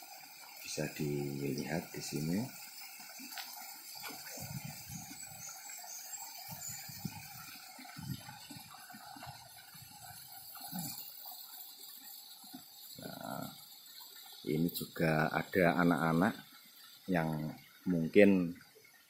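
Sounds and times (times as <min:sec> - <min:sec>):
faint water: 0:00.0 - 0:19.0.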